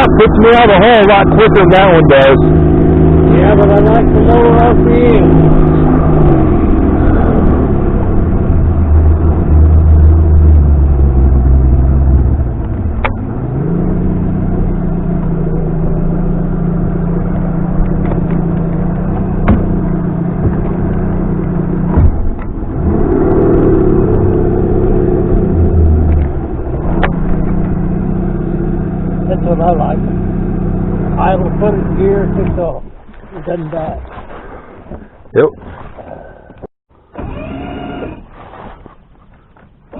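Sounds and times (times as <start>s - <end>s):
outboard boat motor running: 0.0s - 39.9s.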